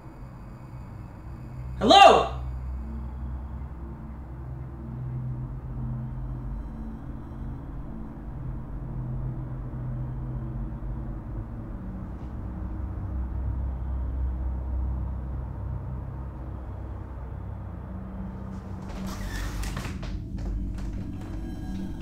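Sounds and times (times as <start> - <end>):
low rumbling drone: 0.0 - 1.8, 2.4 - 22.0.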